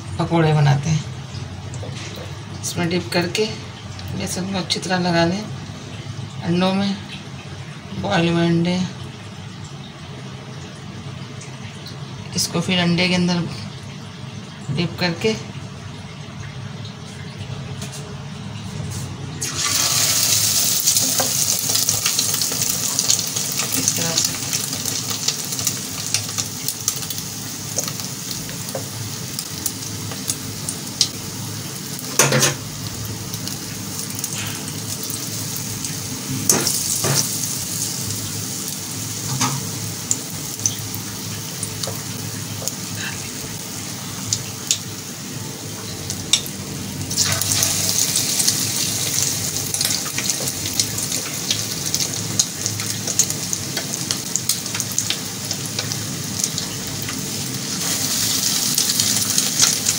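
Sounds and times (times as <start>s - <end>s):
eggs deep-frying in hot oil: 0.0s - 59.9s.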